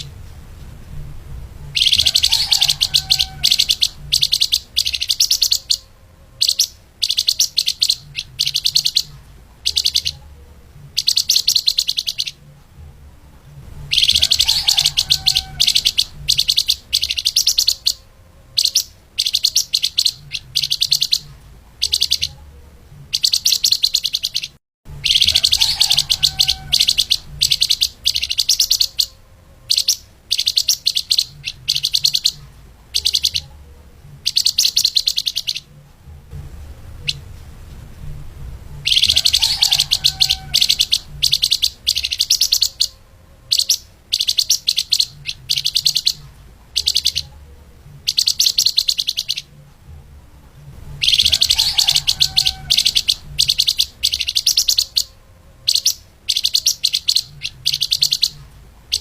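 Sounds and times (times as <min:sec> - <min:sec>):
songbird high chattering song: 0:00.0 - 0:00.2, 0:01.6 - 0:12.8, 0:13.7 - 0:35.8, 0:36.9 - 0:37.3, 0:38.8 - 0:49.6, 0:50.9 - 0:59.0.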